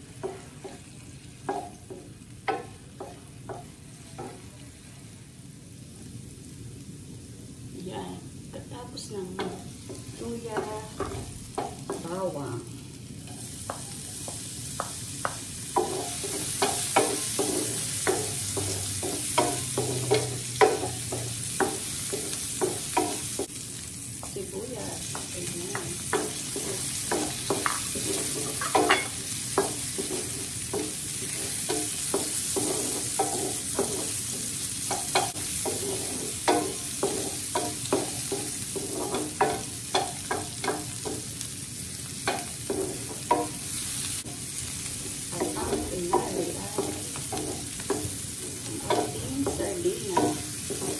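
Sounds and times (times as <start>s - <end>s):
vegetables sizzling in a frying pan: 0.0s - 50.9s
wooden spoon scraping and tapping pan: 0.2s - 4.6s, 9.3s - 12.2s, 13.3s - 23.6s, 25.0s - 41.4s, 42.1s - 44.4s, 45.0s - 50.9s.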